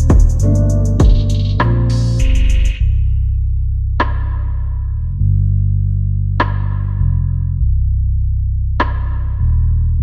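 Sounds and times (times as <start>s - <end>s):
deep sustained bass notes: 0.0s - 10.0s.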